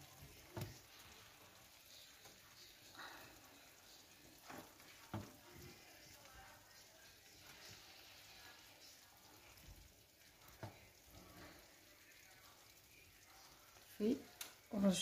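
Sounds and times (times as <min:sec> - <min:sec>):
food sizzling in oven: 0:00.0 - 0:15.0.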